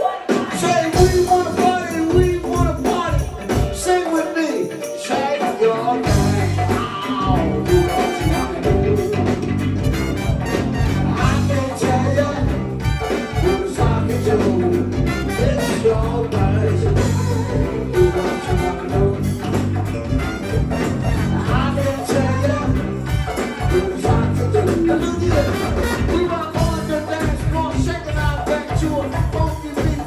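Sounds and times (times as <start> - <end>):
live band playing groove: 0.0 - 30.0.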